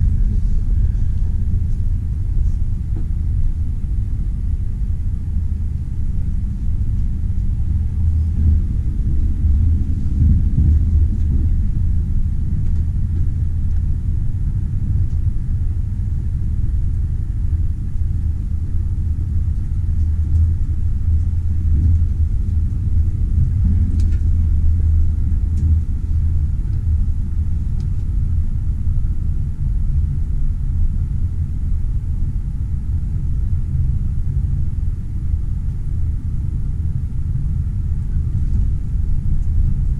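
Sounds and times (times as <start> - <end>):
passenger train rumbling: 0.0 - 39.9.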